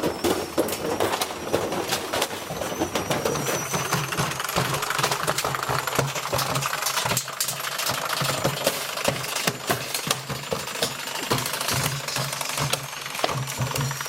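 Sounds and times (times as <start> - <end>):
metallic rattling and knocking: 0.0 - 14.0.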